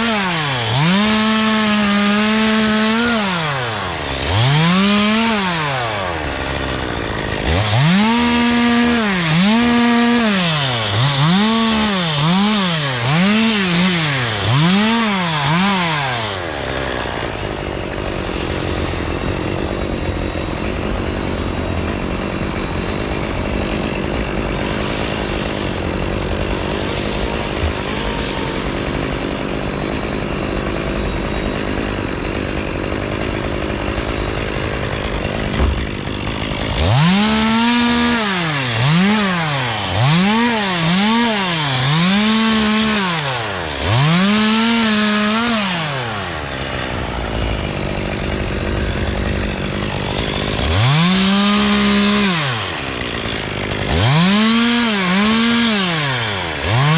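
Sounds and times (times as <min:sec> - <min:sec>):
two-stroke chainsaw revving: 0:00.0 - 0:56.9.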